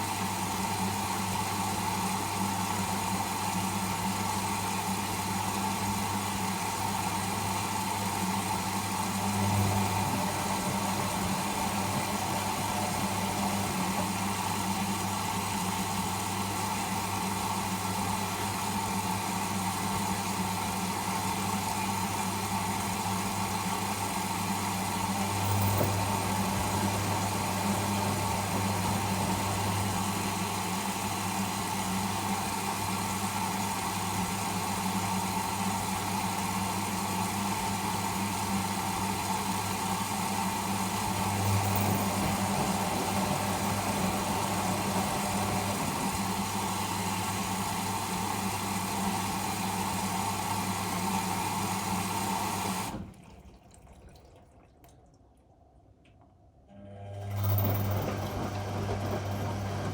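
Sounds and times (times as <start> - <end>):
washing machine motor hum: 0.0 - 53.4, 56.7 - 59.9.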